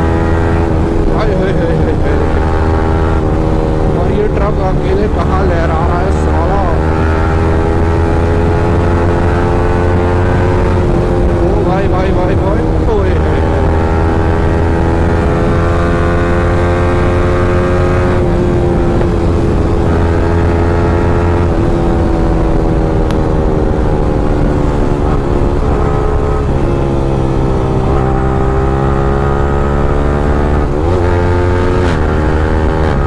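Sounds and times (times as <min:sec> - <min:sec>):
motorcycle engine at high revs: 0:00.0 - 0:33.0.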